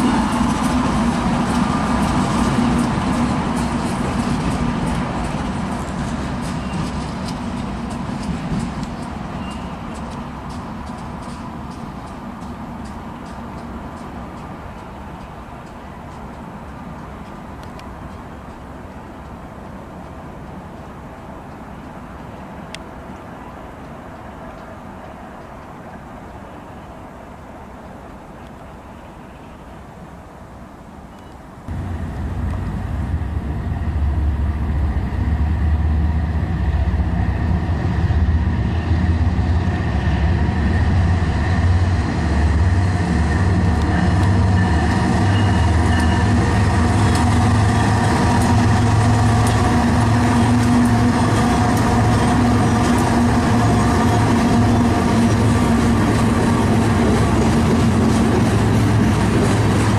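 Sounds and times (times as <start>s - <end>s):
train wheels clicking on rails: 0.0s - 27.0s, 31.7s - 59.9s
diesel locomotive engines humming: 0.0s - 29.4s, 31.6s - 59.9s.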